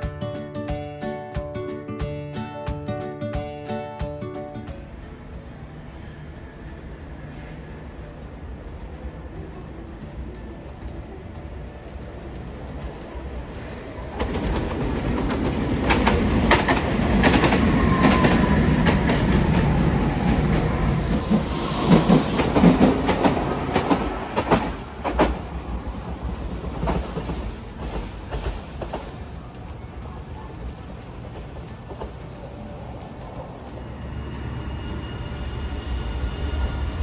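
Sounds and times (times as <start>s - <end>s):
streetcar wheels clacking: 0.0s - 37.0s.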